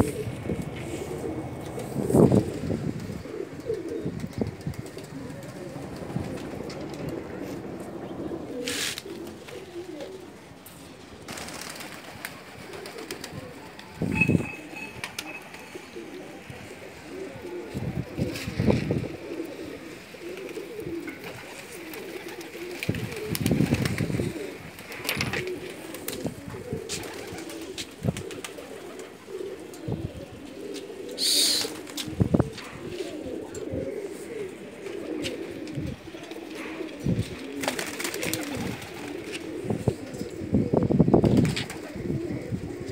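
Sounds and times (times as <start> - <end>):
pigeons cooing: 0.0 - 42.9.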